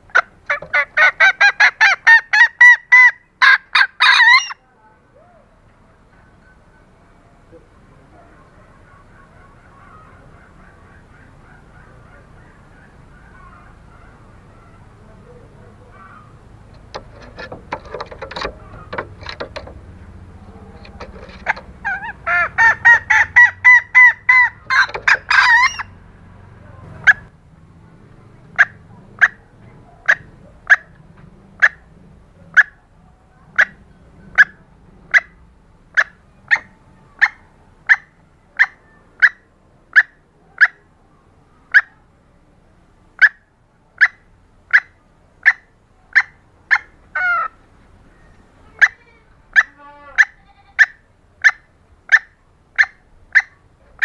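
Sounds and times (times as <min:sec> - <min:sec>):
junglefowl hen cackling and clucking: 0:00.0 - 0:05.5, 0:07.5 - 0:27.3, 0:28.5 - 0:40.9, 0:41.5 - 0:42.1, 0:43.1 - 0:54.0.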